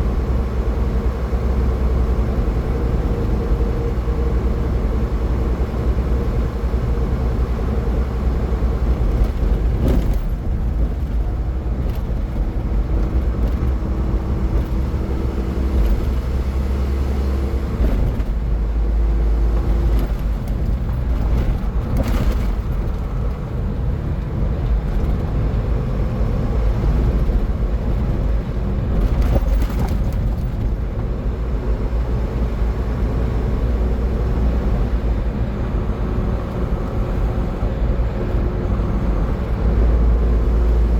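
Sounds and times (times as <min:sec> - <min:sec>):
car tyres and engine rumble: 0:00.0 - 0:40.9.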